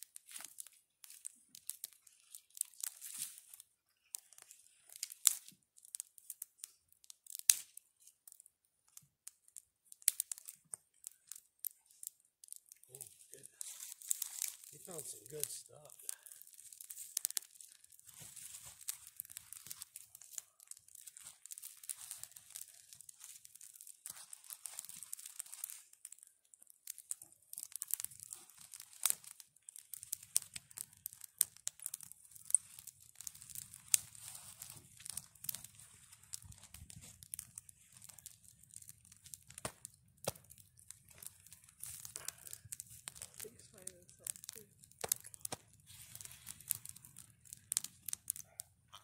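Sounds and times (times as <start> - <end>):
dry sticks snapping: 0.0 - 15.1, 15.9 - 48.4
fire crackling and popping: 0.0 - 49.0.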